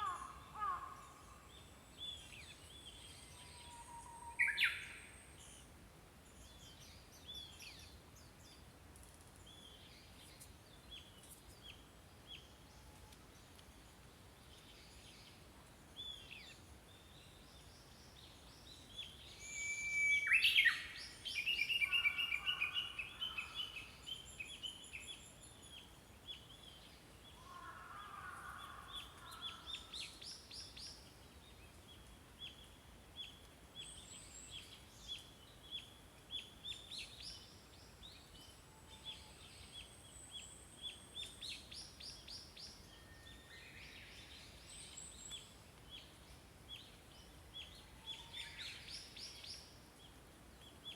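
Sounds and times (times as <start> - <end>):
small songbirds chirping: 0.0 - 50.9.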